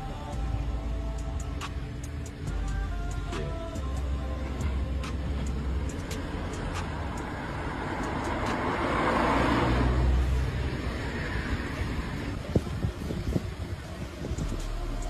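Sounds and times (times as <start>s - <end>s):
car passing close: 0.0s - 15.0s
traffic engine rumble: 0.0s - 15.0s.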